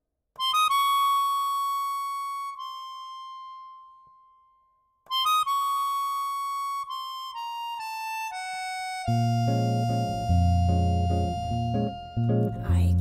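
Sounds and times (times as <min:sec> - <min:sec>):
solo melody instrument: 0:00.4 - 0:13.0.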